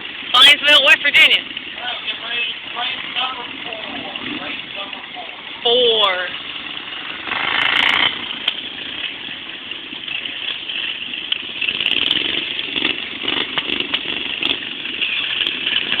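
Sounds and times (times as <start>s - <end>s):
lawn mower engines running: 0.0s - 16.0s.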